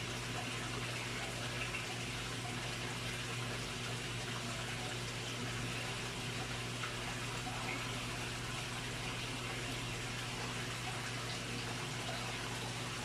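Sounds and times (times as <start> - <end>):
running water in pond: 0.0 - 13.0.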